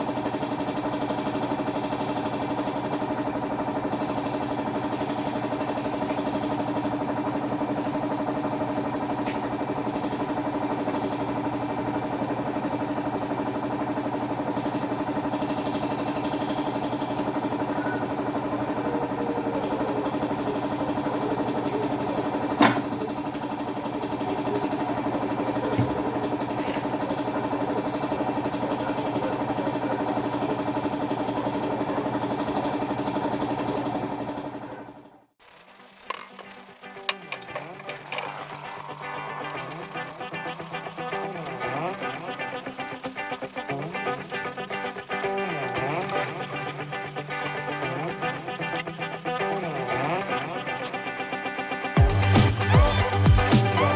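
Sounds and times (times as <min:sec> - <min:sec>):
motor humming: 0:00.0 - 0:53.9.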